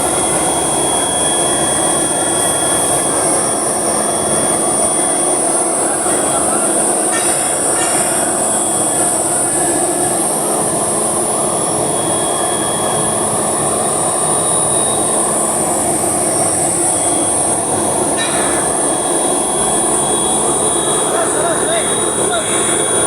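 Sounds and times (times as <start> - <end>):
heavy machinery running: 0.0 - 23.0
high metallic whine: 0.0 - 23.0.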